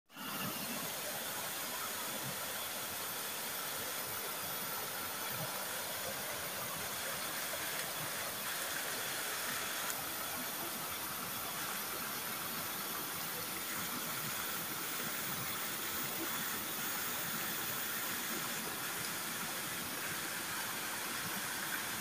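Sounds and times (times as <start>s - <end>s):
stream rushing over stones: 0.1s - 22.0s.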